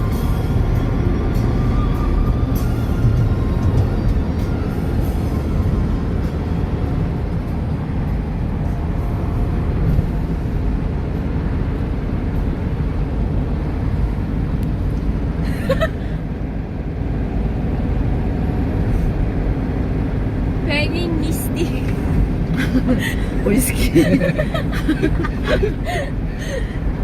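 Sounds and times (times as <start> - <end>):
car road noise rumble: 0.0 - 27.0.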